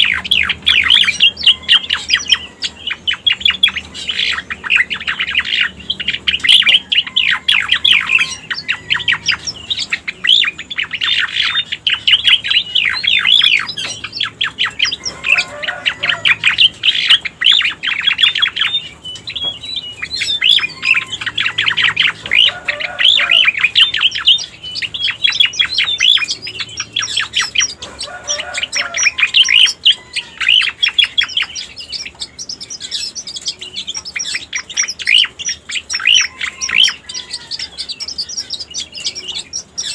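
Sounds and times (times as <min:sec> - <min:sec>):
rapid chattering bird chirps: 0:00.0 - 0:39.9.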